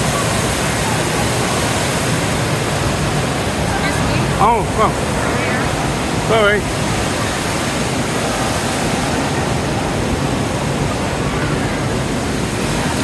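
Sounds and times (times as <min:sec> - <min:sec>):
boat water rushing: 0:00.0 - 0:13.0
wind: 0:00.0 - 0:13.0.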